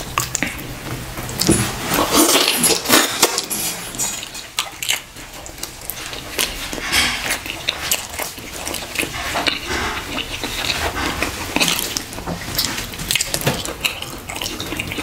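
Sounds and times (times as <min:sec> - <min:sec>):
wet chewing and lip-smacking: 0:00.0 - 0:15.0.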